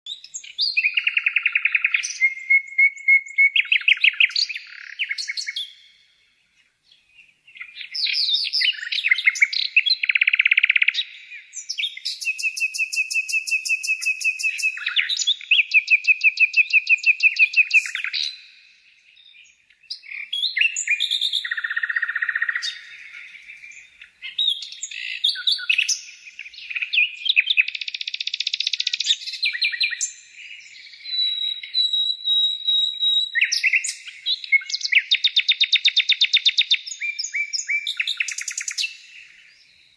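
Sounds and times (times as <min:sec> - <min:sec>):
birds singing: 0:00.1 - 0:39.9.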